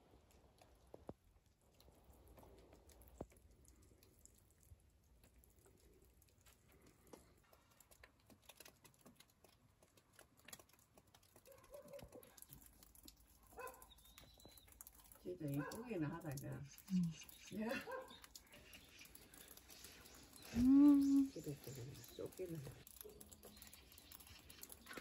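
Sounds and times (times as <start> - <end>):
light ticking of falling snow: 0.0 - 25.0.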